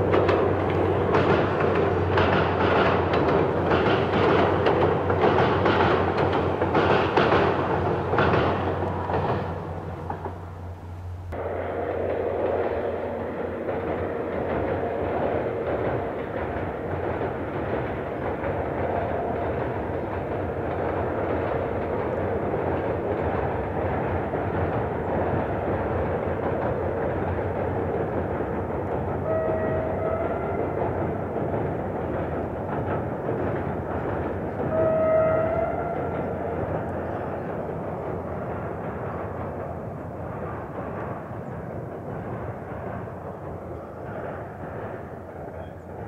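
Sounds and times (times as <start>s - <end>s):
locomotive engine drone: 0.0s - 46.0s
train wheels rolling: 0.0s - 46.0s.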